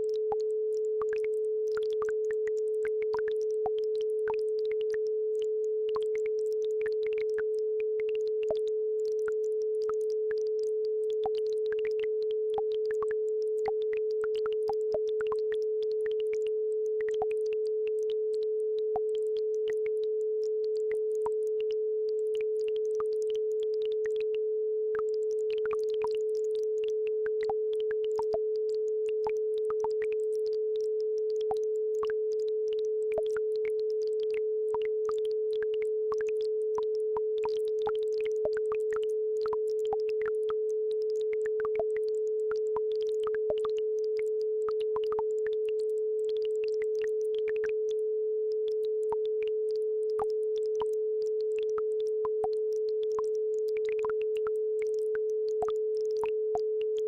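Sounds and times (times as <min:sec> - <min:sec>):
steady sine tone: 0:00.0 - 0:57.0.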